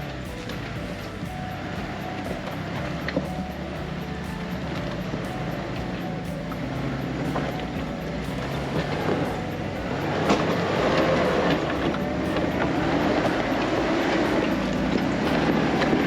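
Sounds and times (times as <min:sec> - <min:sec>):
off-road engine running: 0:00.0 - 0:16.0.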